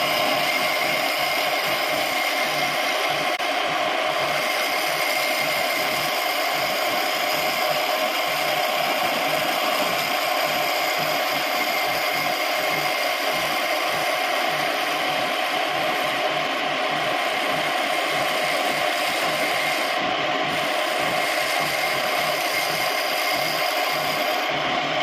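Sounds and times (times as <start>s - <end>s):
wood lathe whirring: 0.0s - 25.0s.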